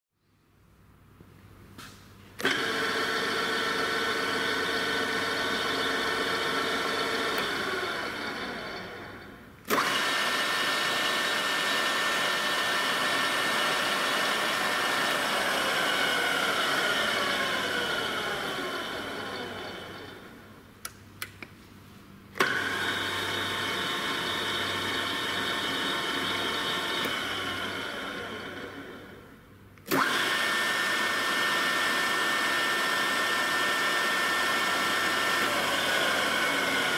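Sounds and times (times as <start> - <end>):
drill spindle whining: 2.4 - 20.6, 22.4 - 29.3, 29.9 - 36.9.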